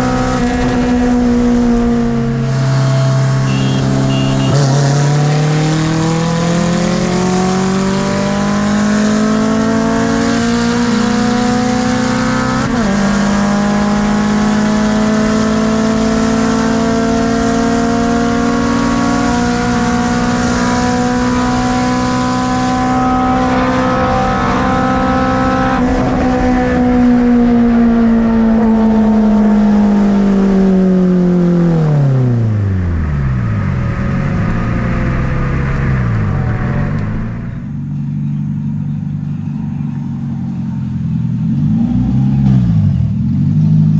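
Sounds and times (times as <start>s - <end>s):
car engine at full throttle: 0.0s - 43.9s.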